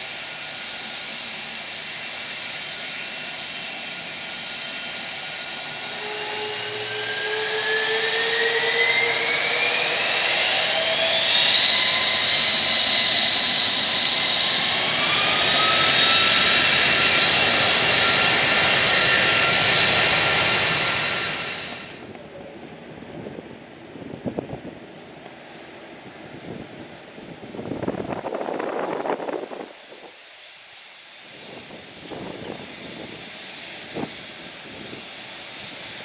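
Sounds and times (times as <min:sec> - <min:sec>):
jet engines spooling up: 0:00.0 - 0:23.3, 0:27.4 - 0:36.0.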